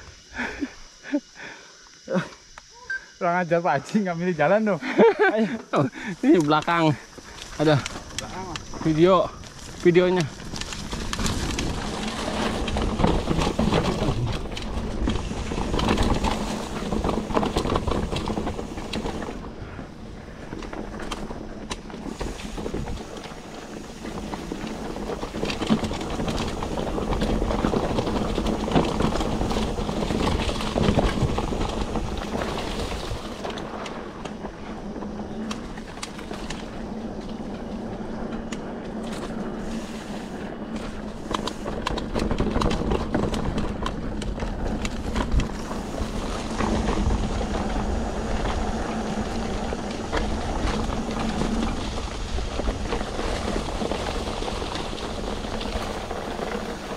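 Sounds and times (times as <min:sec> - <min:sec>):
tyres on loose dirt: 0:00.0 - 0:56.9
bike rattling over bumps: 0:03.9 - 0:56.9.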